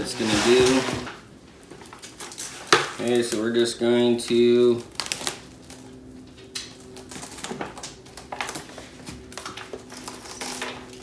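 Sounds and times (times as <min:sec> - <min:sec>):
cling wrap crinkling: 0:00.0 - 0:11.0.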